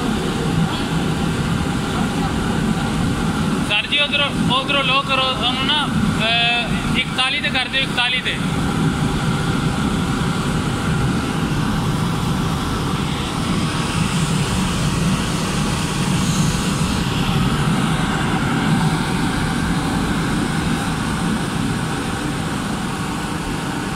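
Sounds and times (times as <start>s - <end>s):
gas burner rushing: 0.0s - 23.9s.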